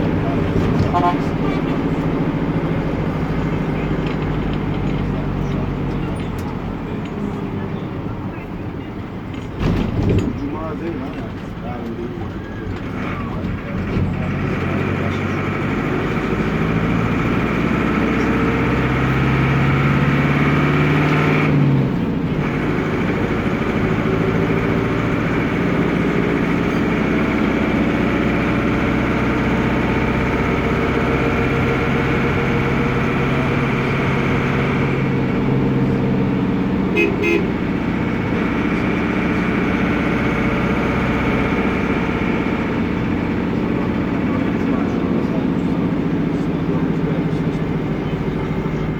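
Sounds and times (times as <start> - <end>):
diesel minibus engine running: 0.0 - 48.9.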